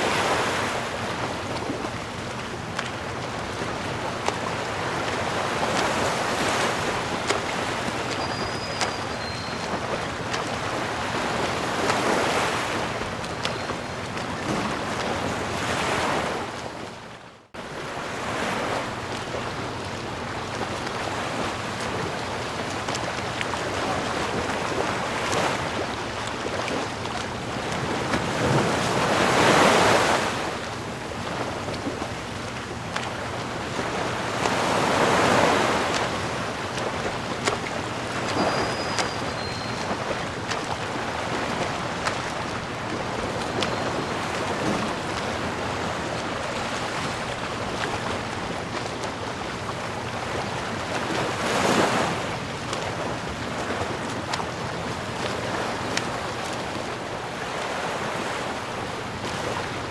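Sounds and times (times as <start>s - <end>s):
waves breaking on shore: 0.0s - 59.9s.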